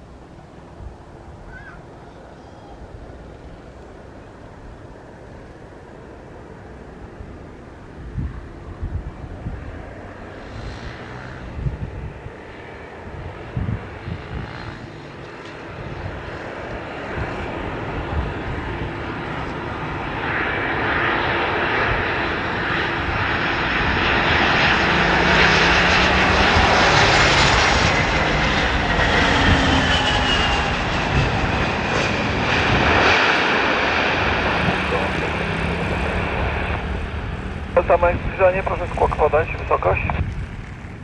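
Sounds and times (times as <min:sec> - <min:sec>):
airliner engines passing: 0:00.0 - 0:41.0.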